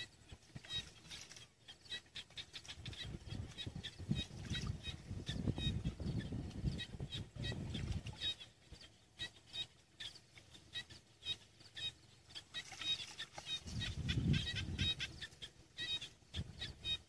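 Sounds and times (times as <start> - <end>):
small animals chirping: 0.0 - 17.0.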